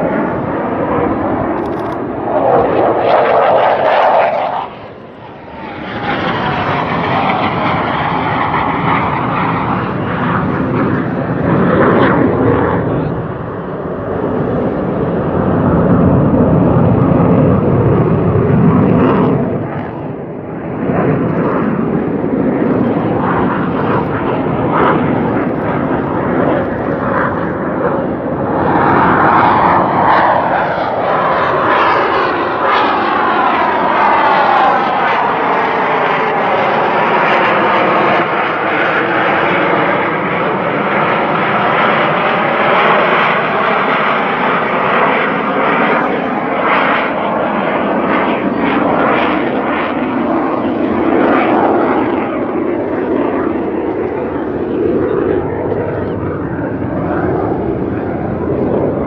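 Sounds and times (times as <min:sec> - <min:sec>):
jets roaring past: 0:00.0 - 0:59.0.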